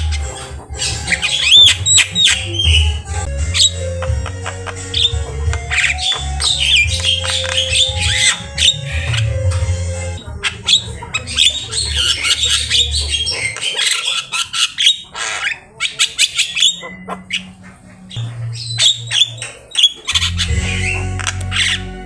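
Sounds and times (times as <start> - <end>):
bird squawking and whistling: 0.0 - 22.0.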